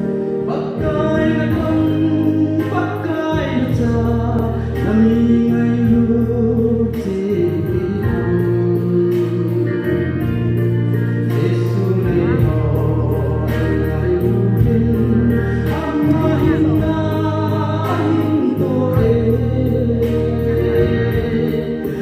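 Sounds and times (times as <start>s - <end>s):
instrumental accompaniment: 0.0s - 22.0s
low bass notes: 0.0s - 22.0s
man singing gospel song: 0.0s - 22.0s.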